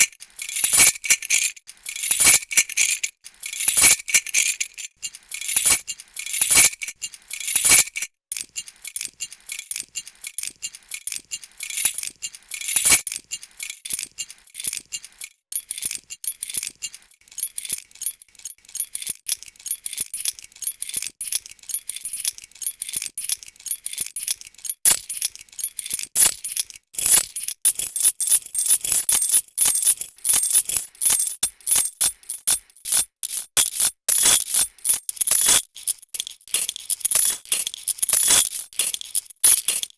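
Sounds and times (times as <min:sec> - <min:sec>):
metal keys jangling: 0:00.0 - 0:16.7, 0:20.8 - 0:39.9.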